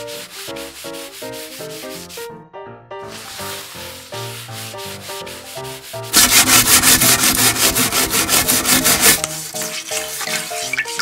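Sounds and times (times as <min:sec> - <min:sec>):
brush scrubbing on plastic: 0:00.0 - 0:02.3, 0:03.0 - 0:11.0
paper towel wiping a mirror: 0:00.0 - 0:02.3, 0:03.0 - 0:11.0
light background music: 0:00.0 - 0:11.0.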